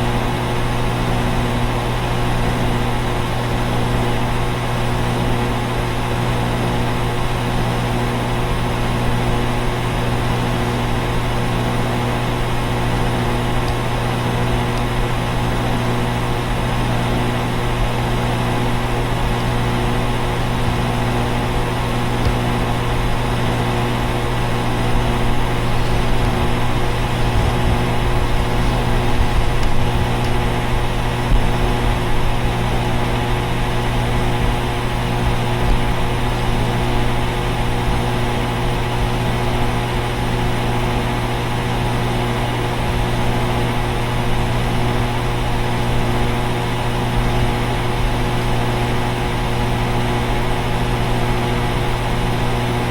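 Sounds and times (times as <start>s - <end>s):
air conditioner units humming: 0.0s - 52.9s.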